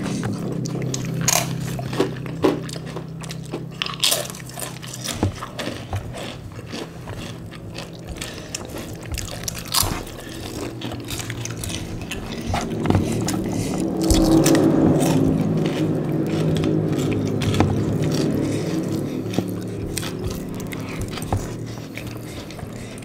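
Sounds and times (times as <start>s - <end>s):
chewing crunchy crackers: 0.0s - 23.0s
steady low hum: 0.0s - 23.0s.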